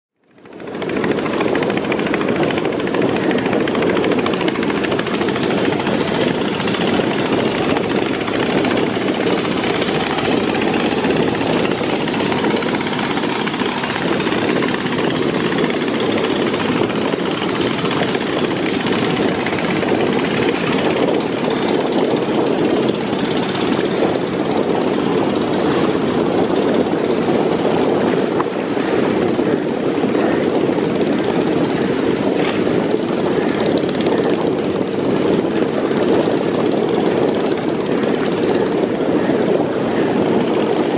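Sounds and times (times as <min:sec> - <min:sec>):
diesel boat engine throbbing: 0:00.3 - 0:40.9.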